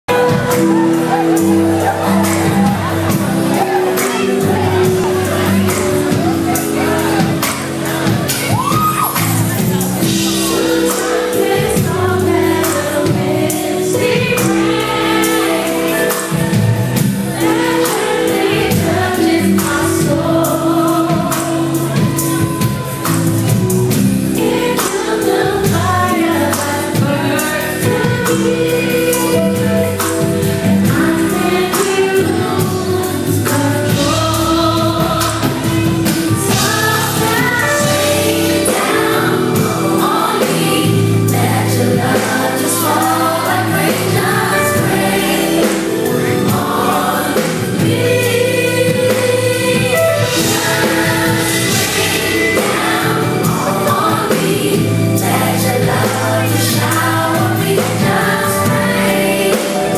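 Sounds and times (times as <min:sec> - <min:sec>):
live band playing: 0:00.0 - 0:59.9
women singing in harmony: 0:00.1 - 0:59.9.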